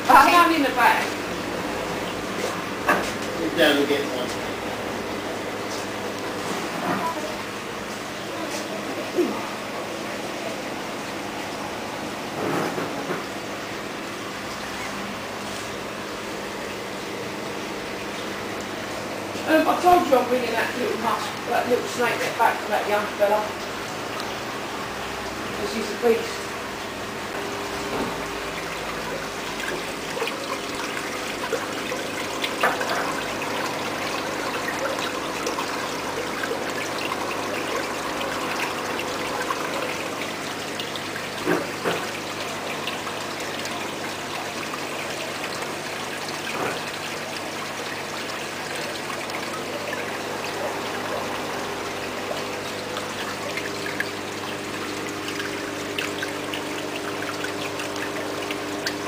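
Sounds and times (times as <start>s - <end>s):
pumps humming: 0.0s - 59.0s
water trickling from tank filters: 0.0s - 59.0s.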